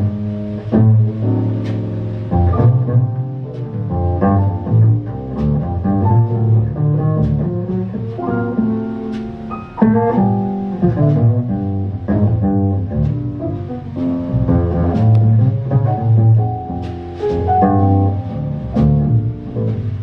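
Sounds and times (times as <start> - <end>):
live instrumental jazz ballad: 0.0 - 20.0.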